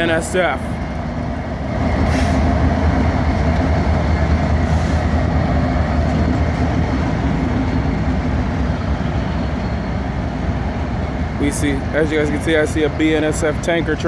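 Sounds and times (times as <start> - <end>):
diesel locomotive rumbling past: 0.0 - 14.0.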